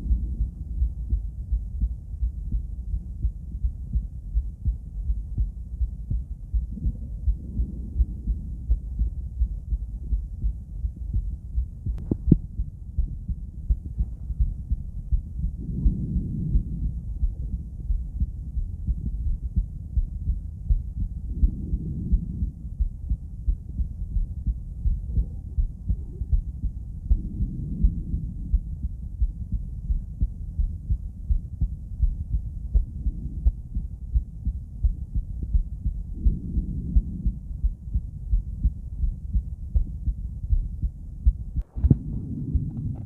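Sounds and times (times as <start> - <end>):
heartbeat through stethoscope: 0.0 - 43.0.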